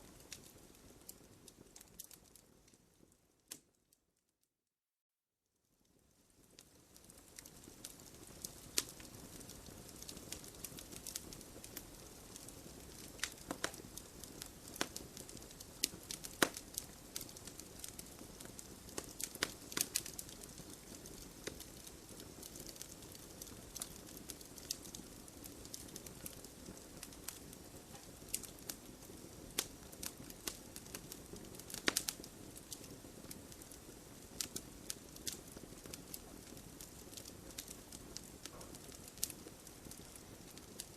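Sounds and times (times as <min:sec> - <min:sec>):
fire crackling and popping: 0:00.0 - 0:03.9, 0:05.8 - 0:40.9.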